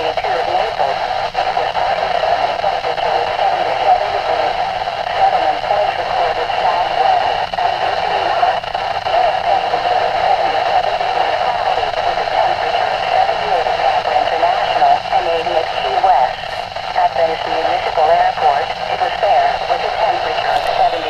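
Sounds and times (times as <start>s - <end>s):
garbled radio voices: 0.0s - 21.0s
radio static: 0.0s - 21.0s.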